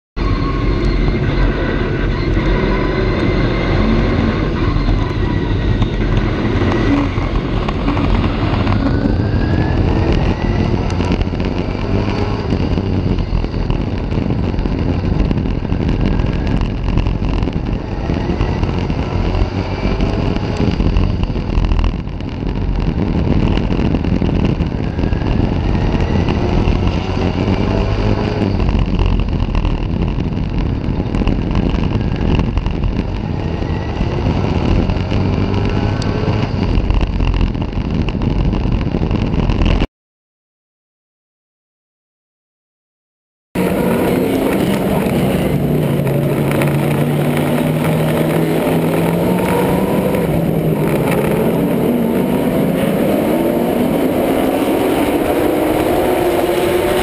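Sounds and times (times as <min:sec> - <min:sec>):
race car engine: 0:00.2 - 0:39.8, 0:43.6 - 0:57.0
other race car engines: 0:00.2 - 0:39.9, 0:43.6 - 0:57.0.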